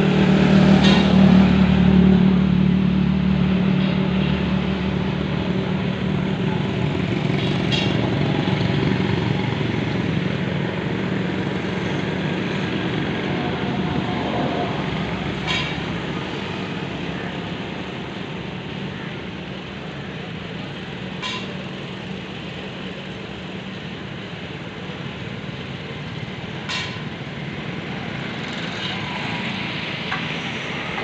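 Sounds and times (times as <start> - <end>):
tractor engine rumbling: 0.0 - 31.0.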